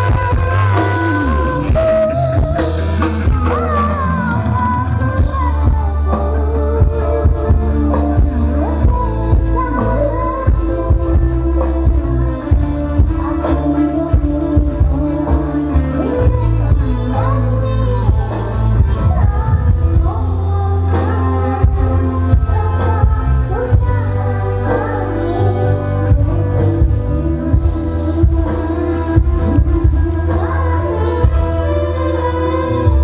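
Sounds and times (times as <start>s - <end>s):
song with heavy bass over speakers: 0.0s - 33.0s.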